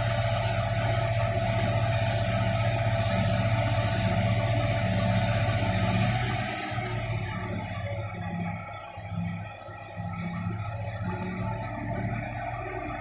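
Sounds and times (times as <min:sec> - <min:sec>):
crane engine running: 0:00.0 - 0:13.0.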